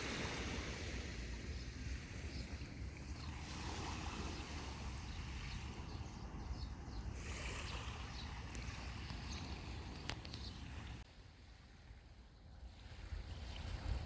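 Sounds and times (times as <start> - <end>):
wind on microphone: 0.0 - 11.0, 12.6 - 14.0
sea waves washing on beach: 0.0 - 14.0.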